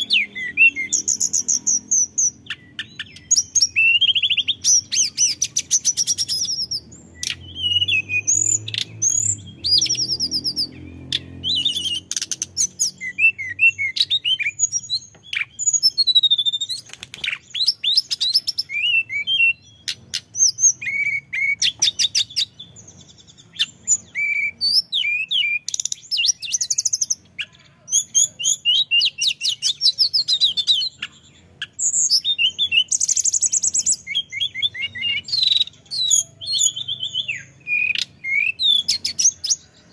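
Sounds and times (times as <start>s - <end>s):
bird warbling and trilling: 0.0s - 39.9s.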